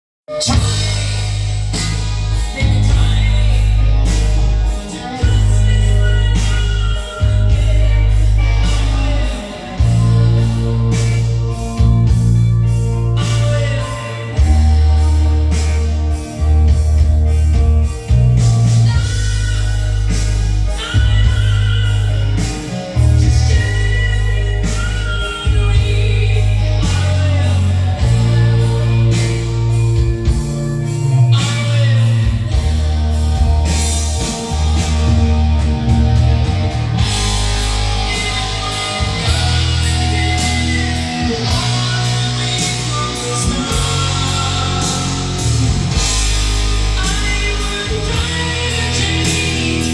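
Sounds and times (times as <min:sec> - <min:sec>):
rock song through speakers: 0:00.3 - 0:49.9.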